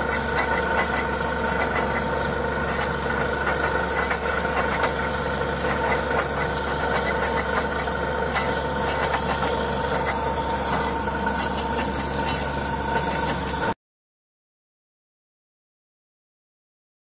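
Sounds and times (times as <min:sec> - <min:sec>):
drilling rig engine droning: 0:00.0 - 0:13.8.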